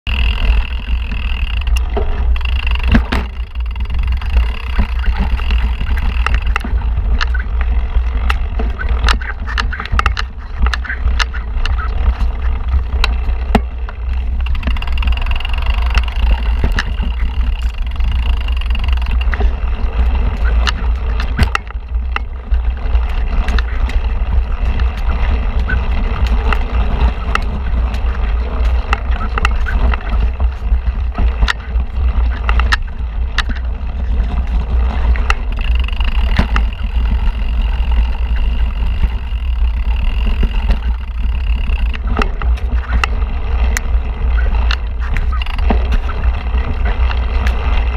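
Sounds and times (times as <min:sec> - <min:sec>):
wind rumble on microphone: 0:00.0 - 0:47.9
bike tyres clicking on stones: 0:00.1 - 0:47.9.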